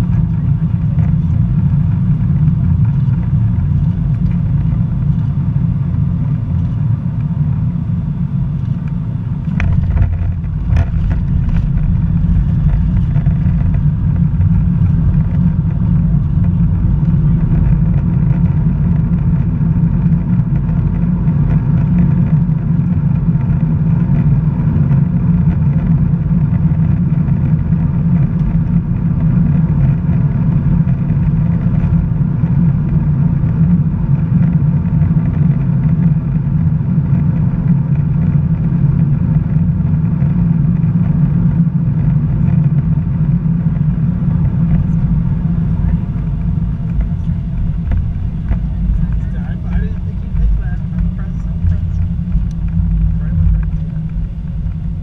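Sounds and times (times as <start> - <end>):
aircraft cabin rumble: 0.0 - 55.0
faint steady whining tones: 0.0 - 55.0.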